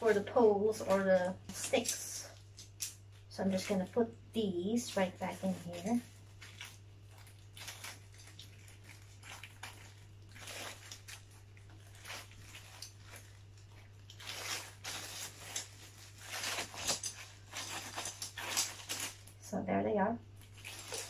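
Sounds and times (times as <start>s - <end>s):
plastic bag rustling: 0.0s - 19.4s, 20.3s - 21.0s
steady low hum: 0.0s - 21.0s.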